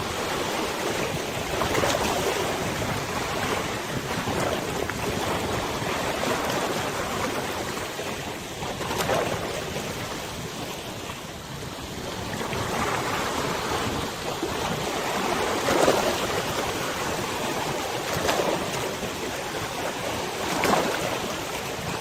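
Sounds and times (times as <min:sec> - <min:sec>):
river waves lapping: 0:00.0 - 0:22.0.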